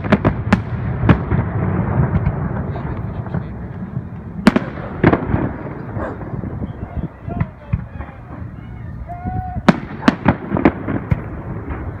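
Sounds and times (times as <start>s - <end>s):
fireworks bangs: 0.0s - 12.0s
low rumble of echoing reports: 0.7s - 12.0s.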